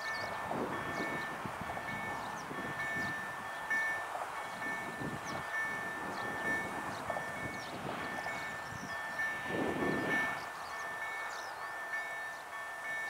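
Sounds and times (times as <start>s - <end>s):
two-tone electronic warning chime: 0.0s - 13.0s.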